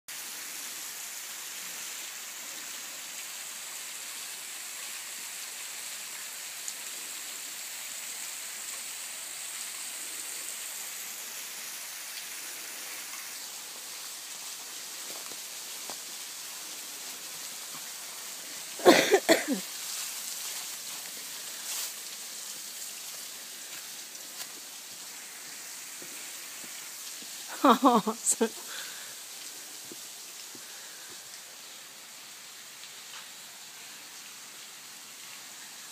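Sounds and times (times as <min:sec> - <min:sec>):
falling splashing water: 0:00.1 - 0:35.9.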